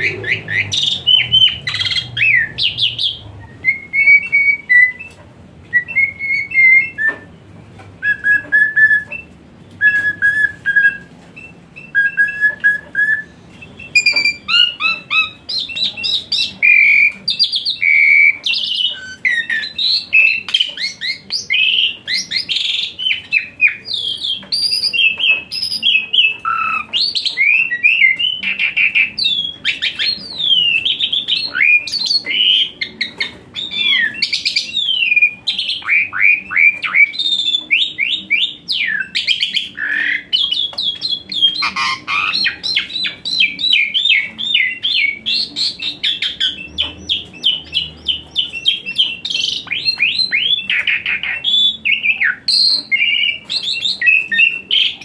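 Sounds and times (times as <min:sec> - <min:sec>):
bird whistling and chirping: 0:00.0 - 0:07.4, 0:08.0 - 0:55.0.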